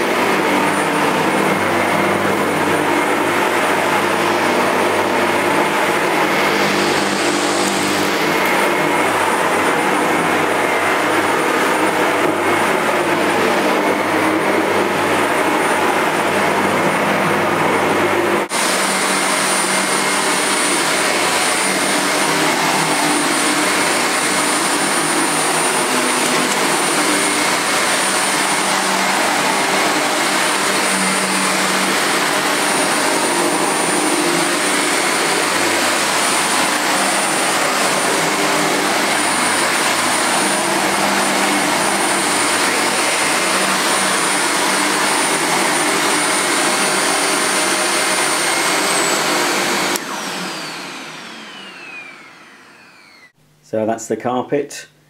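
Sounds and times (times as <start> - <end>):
vacuum cleaner running on carpet: 0.0 - 53.4.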